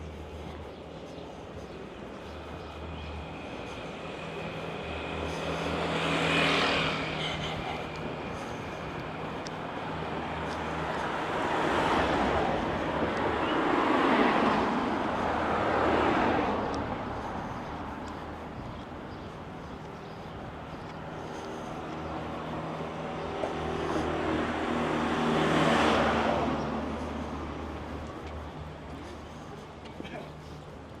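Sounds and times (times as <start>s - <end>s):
vehicle passing by: 2.6s - 29.8s.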